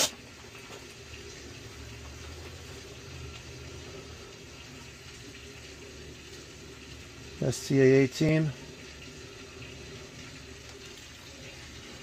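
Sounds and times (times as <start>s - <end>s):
circulator pump humming: 0.0s - 12.0s
water rushing through pipes: 0.0s - 12.0s.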